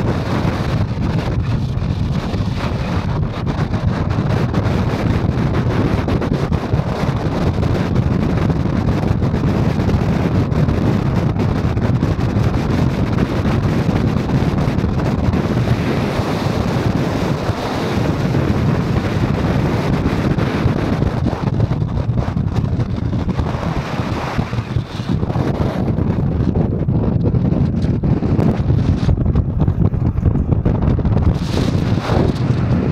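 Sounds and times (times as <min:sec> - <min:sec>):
car driving on paved road: 0:00.0 - 0:32.9.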